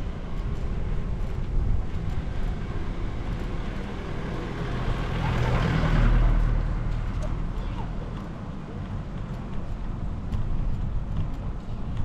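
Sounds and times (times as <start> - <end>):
motor vehicle passing: 0.0 - 11.4
wind and riding noise: 0.0 - 12.0.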